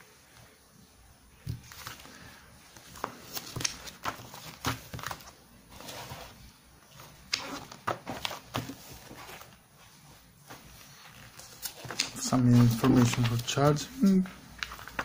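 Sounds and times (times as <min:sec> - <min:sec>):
paper rustling: 0:01.4 - 0:15.0.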